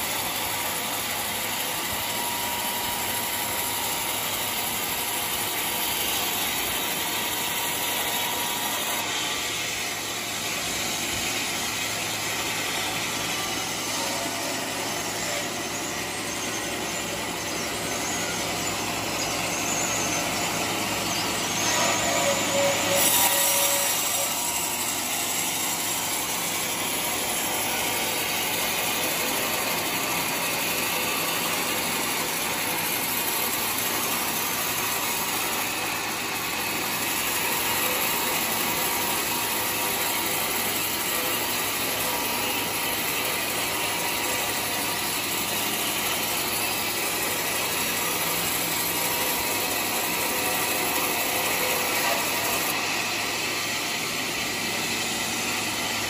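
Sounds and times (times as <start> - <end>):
band sawmill sawing log: 0.0 - 56.0.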